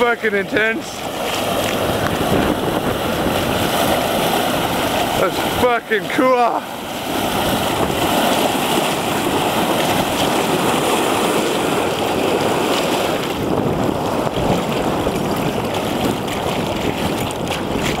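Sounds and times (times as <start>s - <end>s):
water gushing and splashing: 0.0s - 18.0s.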